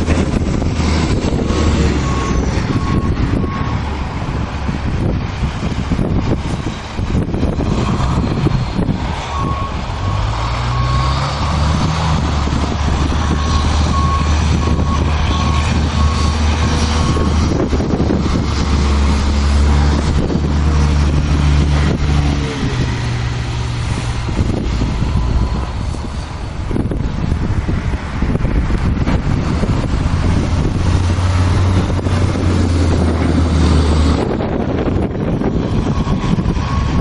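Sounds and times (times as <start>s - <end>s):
heavy vehicle engine running: 0.0s - 37.0s.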